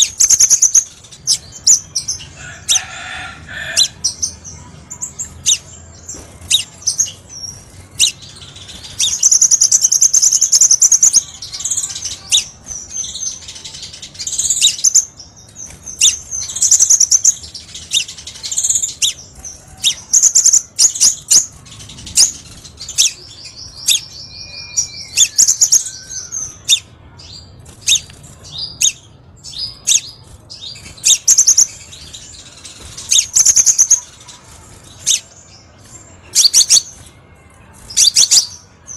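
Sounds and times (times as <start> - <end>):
sunbird chirps and trills: 0.0 - 38.9.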